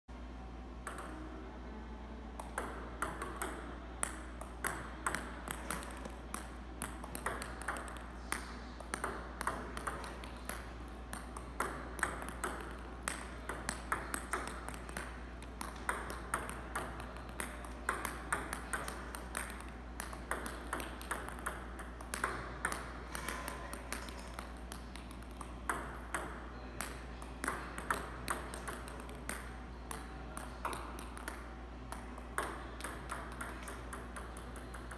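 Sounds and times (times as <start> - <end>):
steady low hum: 0.1 - 34.9
table tennis ball clicking: 0.8 - 1.2, 2.4 - 34.9.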